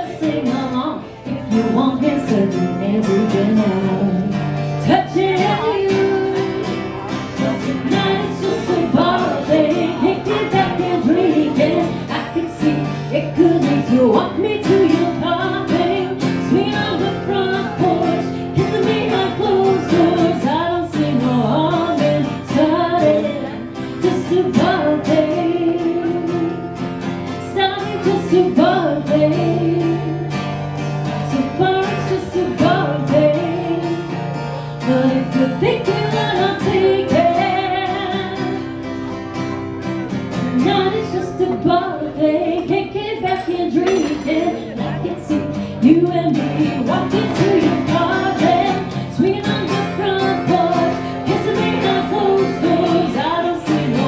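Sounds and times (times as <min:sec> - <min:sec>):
woman singing into microphone: 0:00.0 - 0:39.1, 0:40.1 - 0:54.0
acoustic guitar: 0:00.0 - 0:54.0.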